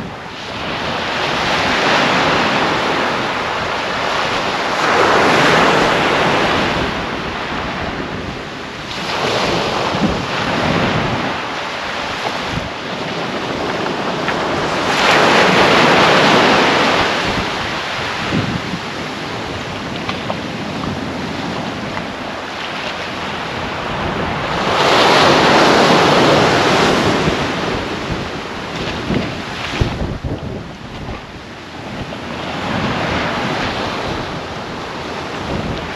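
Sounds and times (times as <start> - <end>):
waves breaking on a beach: 0.0 - 35.9.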